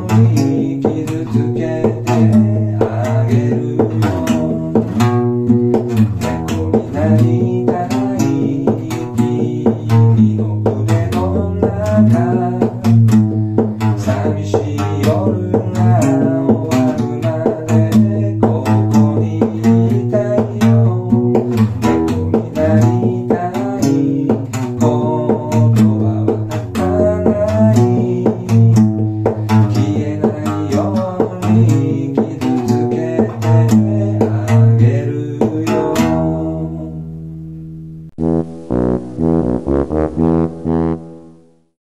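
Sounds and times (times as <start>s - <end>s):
acoustic guitar plucked notes: 0.0s - 41.5s.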